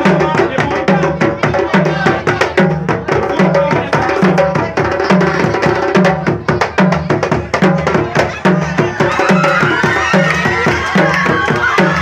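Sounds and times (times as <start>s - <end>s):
hand drums fast rhythm: 0.0s - 12.0s.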